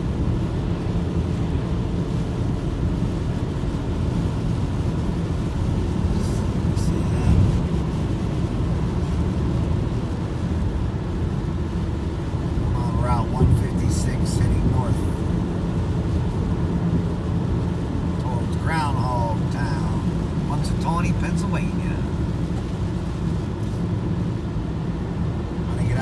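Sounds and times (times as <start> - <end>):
car engine rumble: 0.0 - 26.0.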